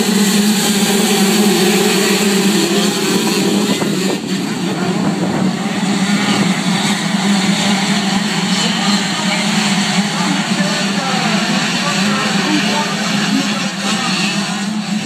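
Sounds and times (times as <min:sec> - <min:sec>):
motocross bike engines droning: 0:00.0 - 0:15.0.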